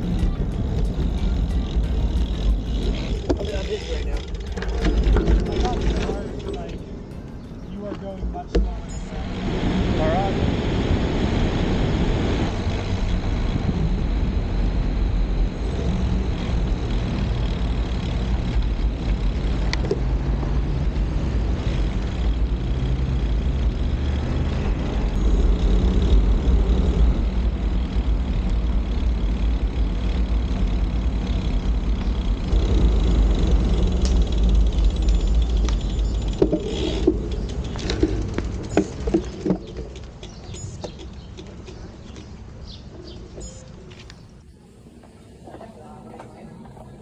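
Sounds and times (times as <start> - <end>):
road noise: 0.0 - 47.0
wind rushing over microphone: 0.0 - 47.0.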